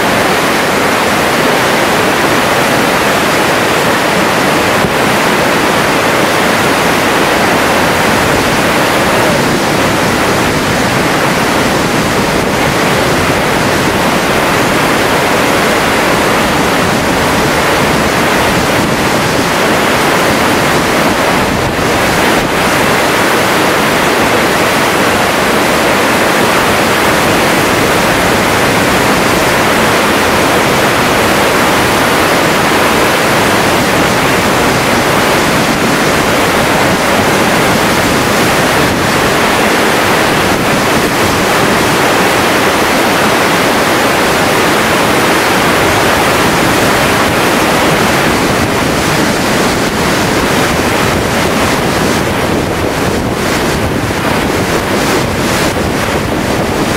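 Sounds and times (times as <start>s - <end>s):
muddy floodwater rushing: 0.0s - 56.9s.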